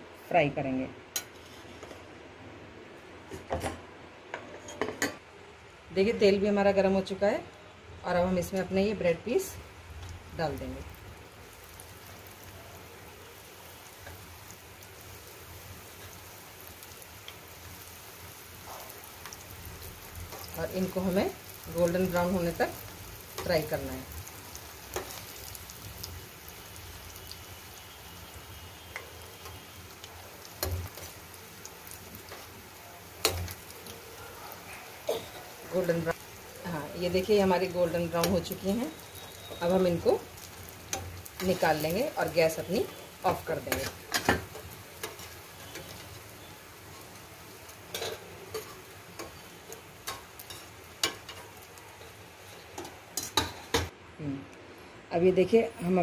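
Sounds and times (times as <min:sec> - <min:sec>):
bread sizzling in hot oil: 0:08.8 - 0:53.9.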